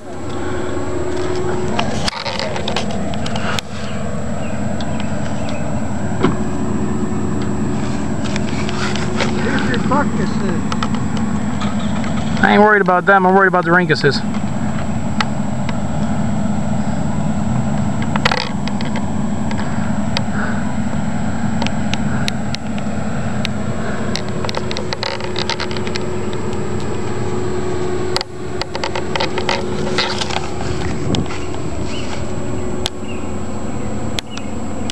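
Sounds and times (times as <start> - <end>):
vehicle engine idling: 0.0 - 34.9.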